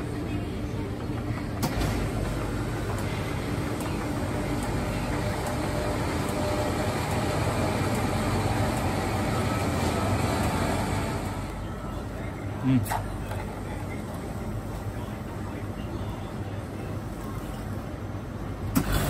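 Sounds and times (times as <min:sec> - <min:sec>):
drink machine humming: 0:00.0 - 0:19.0.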